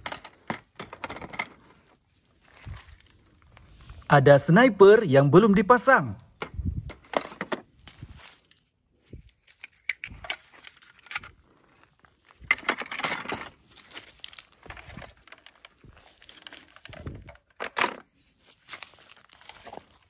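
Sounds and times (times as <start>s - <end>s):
dry grass crackling: 0.0s - 4.1s, 6.2s - 20.0s.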